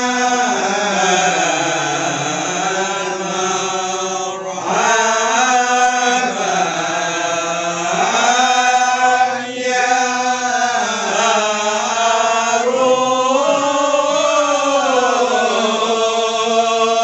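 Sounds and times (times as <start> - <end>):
men chanting unaccompanied: 0.0 - 17.0.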